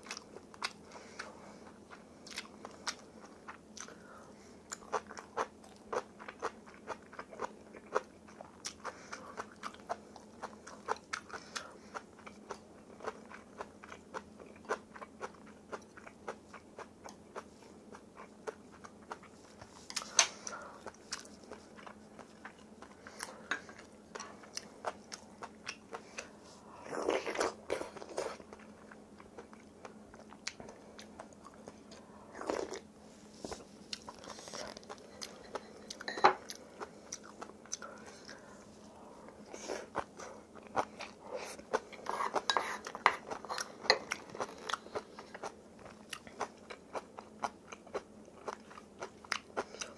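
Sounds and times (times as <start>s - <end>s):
crunchy chewing: 4.7s - 49.9s.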